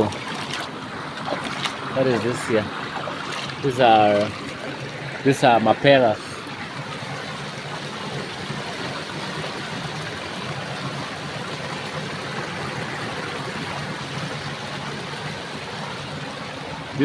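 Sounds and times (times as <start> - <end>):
stream running over stones: 0.0 - 17.0.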